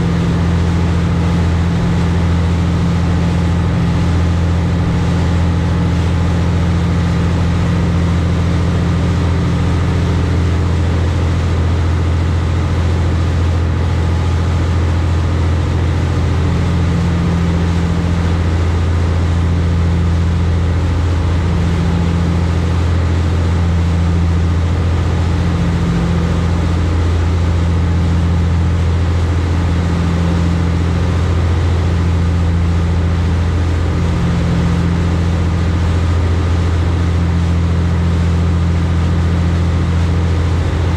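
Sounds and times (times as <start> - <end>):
boat engines low drone: 0.0 - 40.9.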